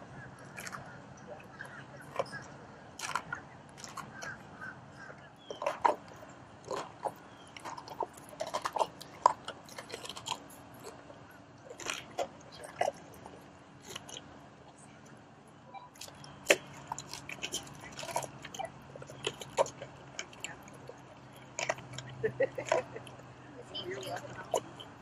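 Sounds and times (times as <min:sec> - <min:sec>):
lion chewing meat on bone: 0:00.0 - 0:15.3, 0:15.9 - 0:25.0.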